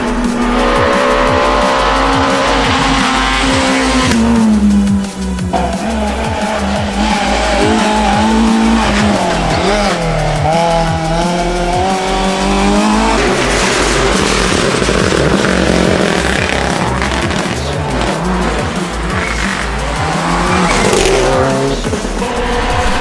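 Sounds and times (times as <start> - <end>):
rally car engine revving high: 0.0 - 23.0.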